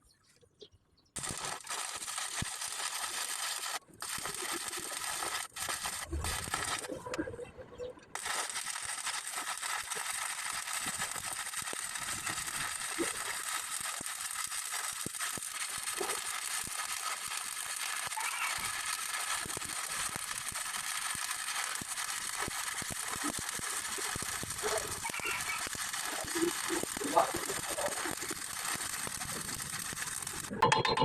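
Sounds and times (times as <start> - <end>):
welding hiss and crackle: 1.2 - 7.2, 8.1 - 30.6.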